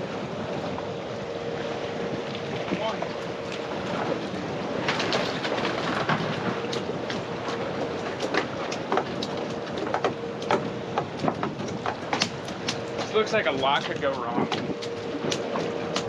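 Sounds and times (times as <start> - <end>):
water washing against hull: 0.0 - 16.0
wind: 0.0 - 16.0
clicks and knocks from boat: 2.2 - 16.0.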